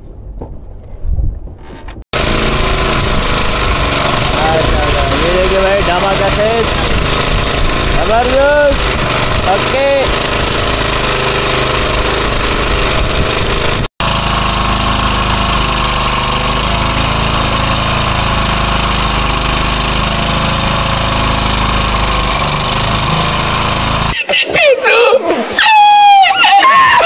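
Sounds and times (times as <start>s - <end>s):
boat engine running: 2.2s - 24.2s.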